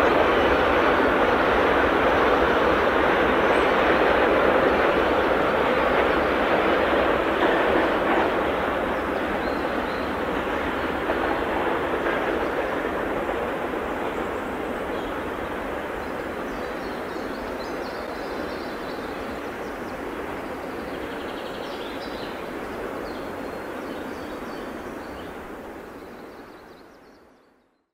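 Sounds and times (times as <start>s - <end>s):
freight train rumbling: 0.0s - 27.3s.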